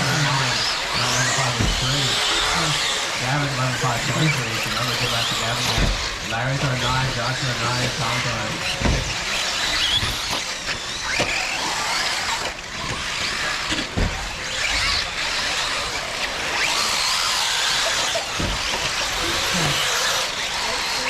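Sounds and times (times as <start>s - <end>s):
electric motor whines: 0.0s - 21.0s.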